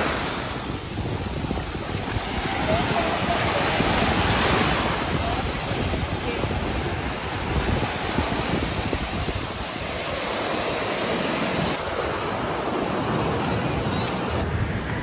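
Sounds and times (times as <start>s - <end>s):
surf washing on beach: 0.0s - 15.0s
wind gusting on microphone: 0.0s - 15.0s.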